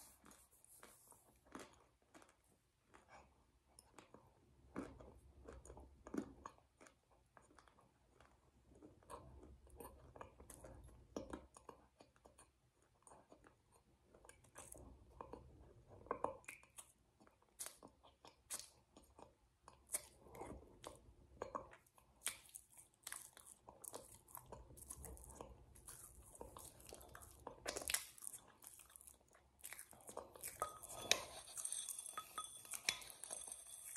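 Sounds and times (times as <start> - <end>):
person chewing and lip-smacking: 0.0 - 31.7.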